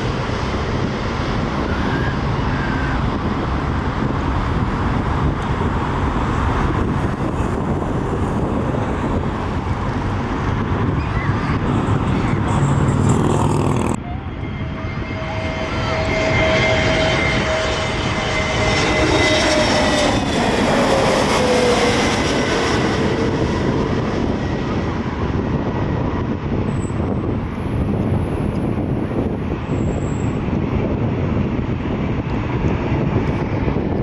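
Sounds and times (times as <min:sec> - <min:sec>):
jet aircraft passing: 0:00.0 - 0:34.0.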